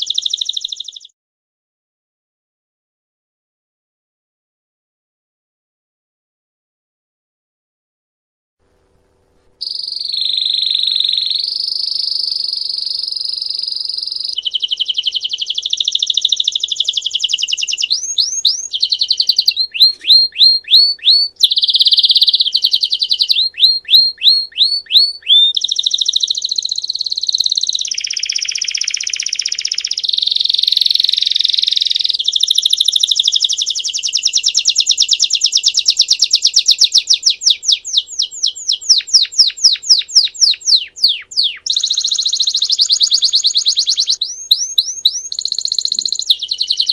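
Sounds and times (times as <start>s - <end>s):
canary singing: 0.0s - 1.1s, 9.6s - 46.9s.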